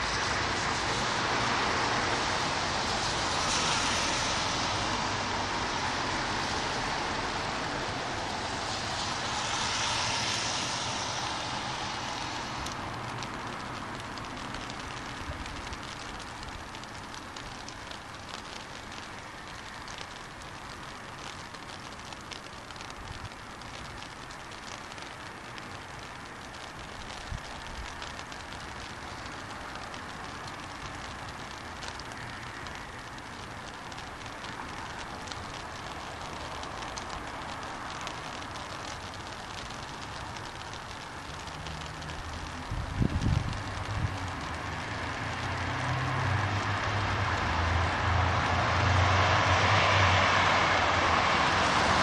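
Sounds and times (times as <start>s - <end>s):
car tyres hissing on wet road: 0.0s - 52.0s
rain hiss with light patter: 0.0s - 52.0s.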